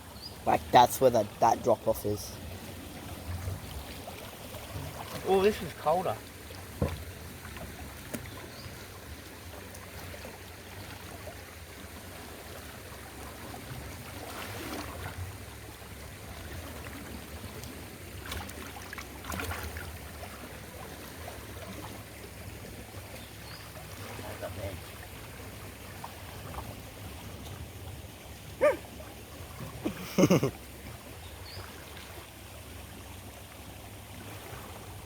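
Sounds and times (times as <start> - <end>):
floodwater flowing: 0.0 - 35.0
splashes of wading: 2.2 - 35.0.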